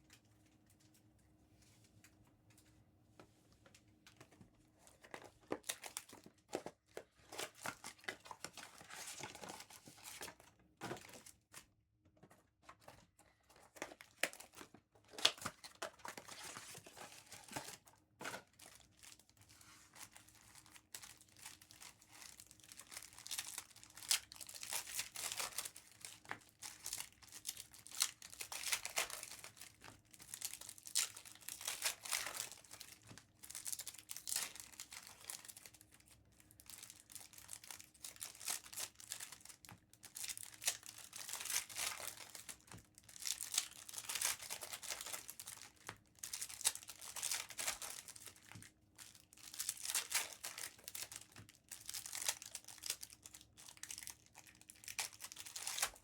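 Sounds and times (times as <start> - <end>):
wrapping torn and crinkled: 4.8 - 11.6, 13.5 - 56.0.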